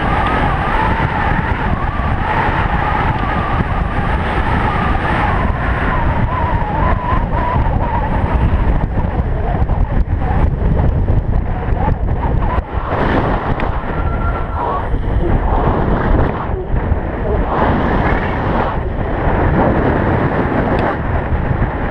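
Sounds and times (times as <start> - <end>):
wavering whine: 0.0 - 21.9
wind rushing over microphone: 0.0 - 21.9.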